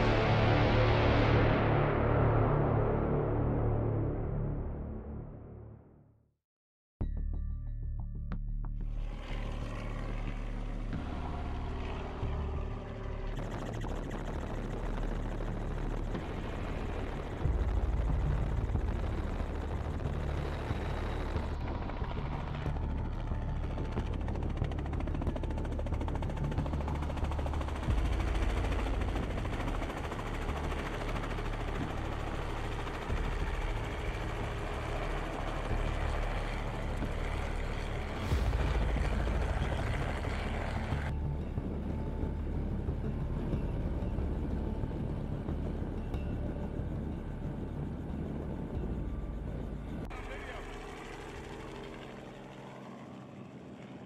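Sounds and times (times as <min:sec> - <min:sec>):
helicopter rotor and engine: 0:08.9 - 0:54.0.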